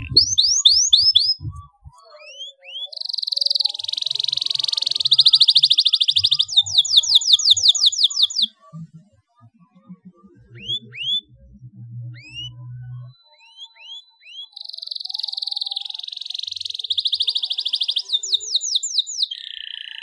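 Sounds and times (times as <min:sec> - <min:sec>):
canary singing trill: 0:00.0 - 0:08.6, 0:10.5 - 0:11.3, 0:12.1 - 0:20.0.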